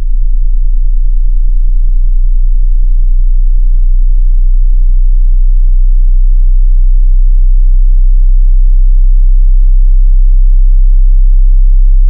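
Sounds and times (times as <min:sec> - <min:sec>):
deep sine-wave test tone: 0:00.0 - 0:12.0.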